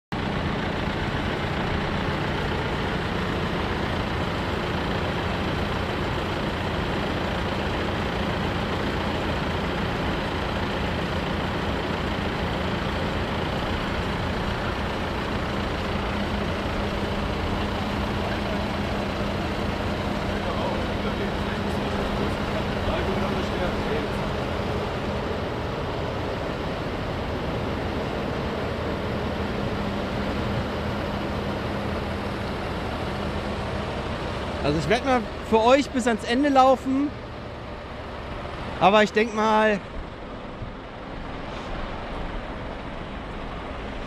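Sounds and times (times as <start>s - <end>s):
diesel engines idling: 0.1s - 44.0s.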